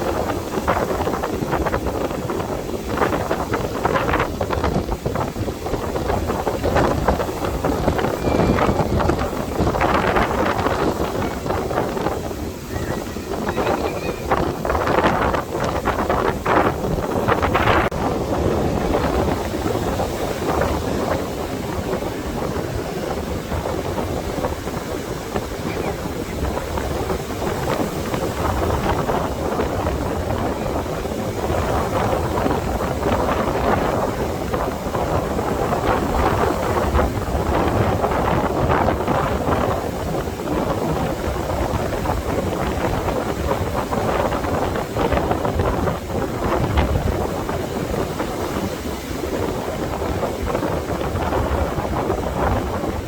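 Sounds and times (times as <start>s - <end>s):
ocean surf: 0.0s - 53.0s
wind buffeting microphone: 0.0s - 53.0s.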